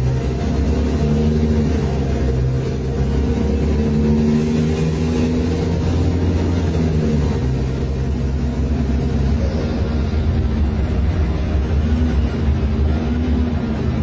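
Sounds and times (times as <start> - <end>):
diesel bus engine running: 0.0 - 14.0.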